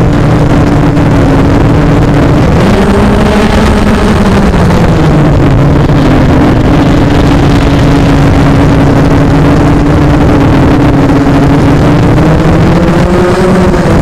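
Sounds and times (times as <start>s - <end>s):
electric motor and propeller drone: 0.0s - 14.0s
rushing noise: 0.0s - 14.0s.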